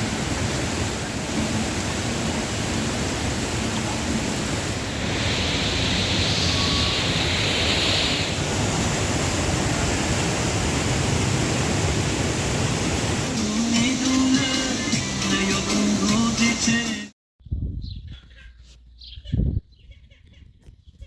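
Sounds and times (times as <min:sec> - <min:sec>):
rushing water: 0:00.0 - 0:17.1.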